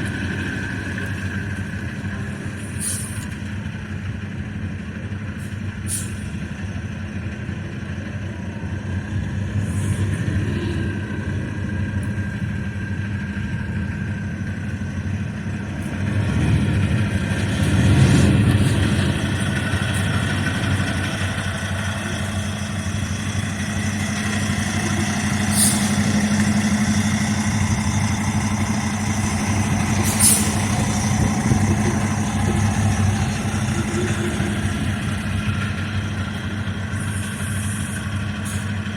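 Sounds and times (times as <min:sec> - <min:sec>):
truck engine humming: 0:00.0 - 0:38.9.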